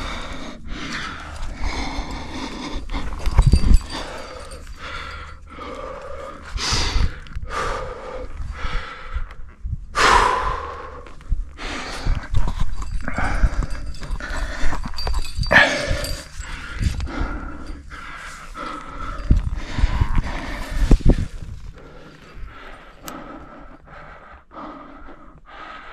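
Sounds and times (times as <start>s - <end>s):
person gasping breaths: 0.0s - 25.9s.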